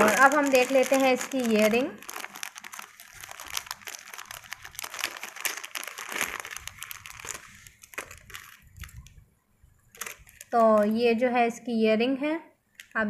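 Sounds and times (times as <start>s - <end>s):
plastic packet crinkling: 0.0s - 9.2s, 9.8s - 11.1s, 12.8s - 13.0s.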